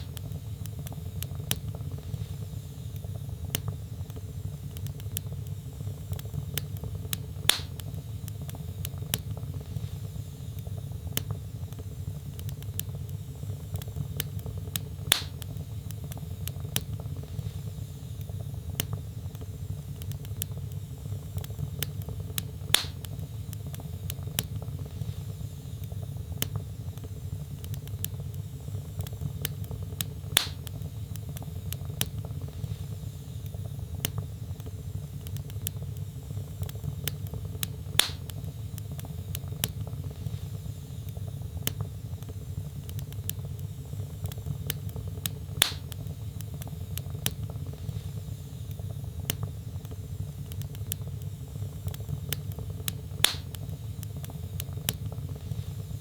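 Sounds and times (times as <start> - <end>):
loud fire pops: 0.0 - 33.0, 33.9 - 56.0
logs crackling in fireplace: 0.0 - 56.0
low rumble of flame: 0.0 - 56.0.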